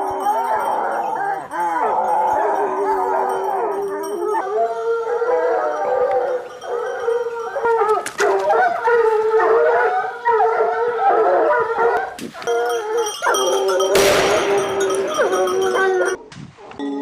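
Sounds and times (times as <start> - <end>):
hounds baying and howling: 0.0 - 16.8.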